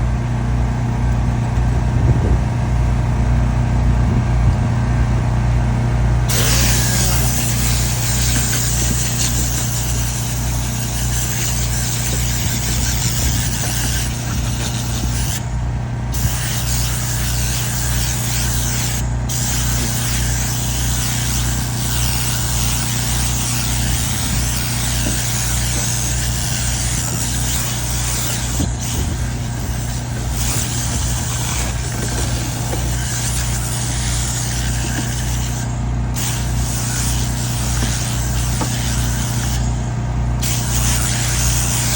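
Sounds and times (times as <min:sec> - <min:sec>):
air compressor pulsing hum: 0:00.0 - 0:41.9
air blow gun hissing: 0:06.3 - 0:41.9.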